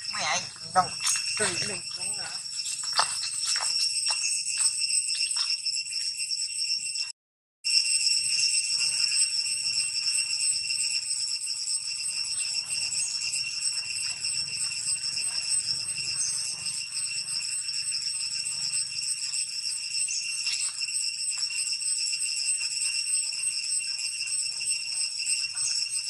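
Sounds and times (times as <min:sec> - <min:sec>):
shrill insect chorus: 0:00.0 - 0:07.1, 0:07.7 - 0:26.0.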